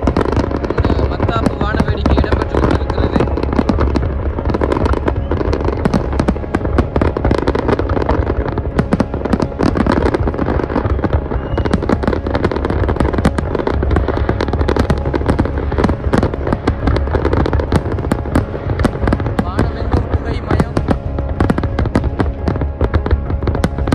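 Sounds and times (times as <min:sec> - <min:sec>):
fireworks bangs and crackling: 0:00.0 - 0:23.9
low rumble: 0:00.0 - 0:23.9.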